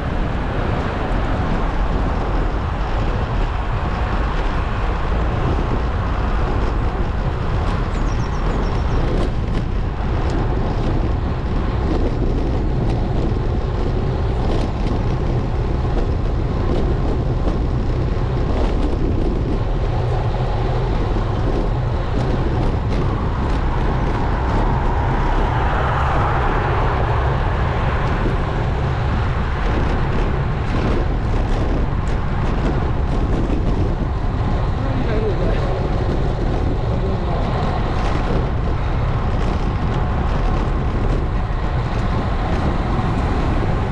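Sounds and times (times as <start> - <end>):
road noise while riding: 0.0 - 43.9
wind rumble: 0.0 - 43.9.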